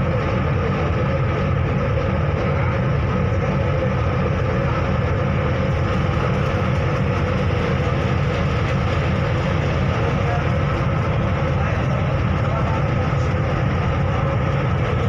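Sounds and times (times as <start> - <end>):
ferry engine low rumble: 0.0 - 15.0.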